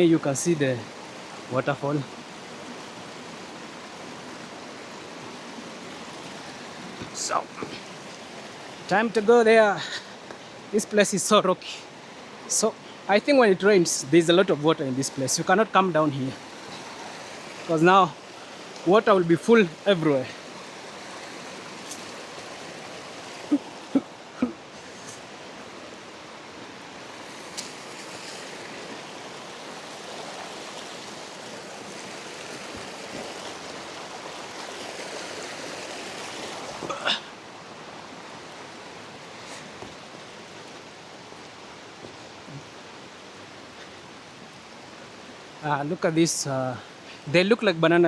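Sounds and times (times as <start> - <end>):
river water rushing over rocks: 0.0 - 48.0.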